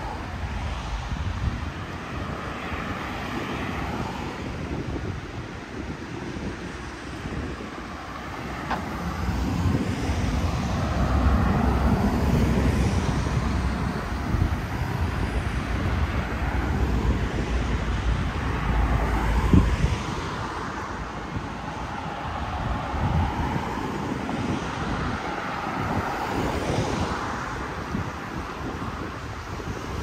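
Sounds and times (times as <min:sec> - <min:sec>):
cars driving past: 0:00.0 - 0:30.0.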